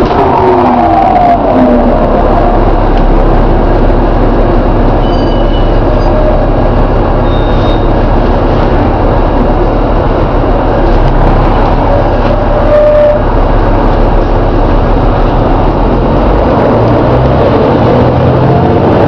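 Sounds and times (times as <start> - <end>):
falling whine: 0.0 - 16.2
bus engine and road noise: 0.0 - 19.0.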